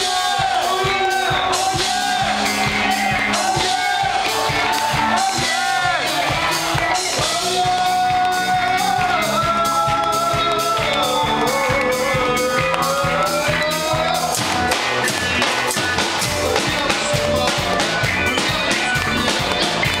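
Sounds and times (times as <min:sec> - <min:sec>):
live band playing: 0:00.0 - 0:20.0.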